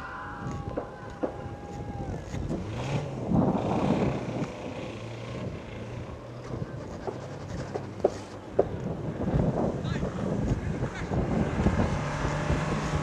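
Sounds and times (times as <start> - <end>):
car engines revving: 0.0 - 13.0
wind rumbling on microphone: 0.0 - 13.0.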